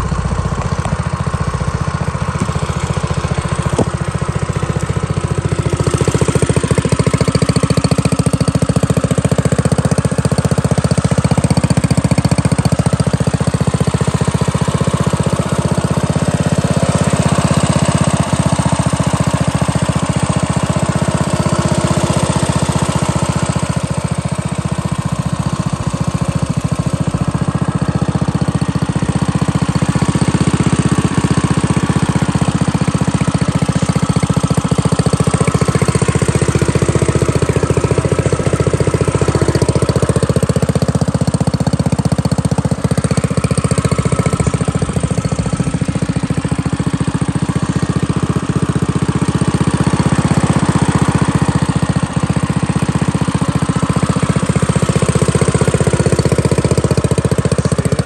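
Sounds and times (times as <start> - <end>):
minibike engine running: 0.0 - 58.0.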